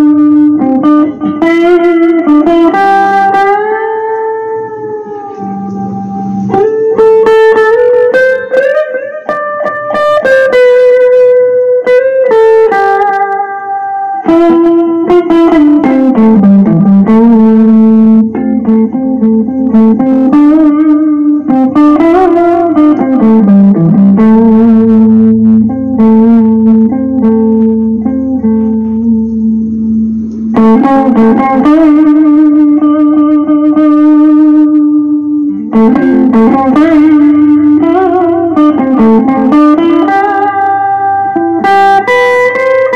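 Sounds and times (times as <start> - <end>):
electric guitar lead melody: 0.0 - 42.9.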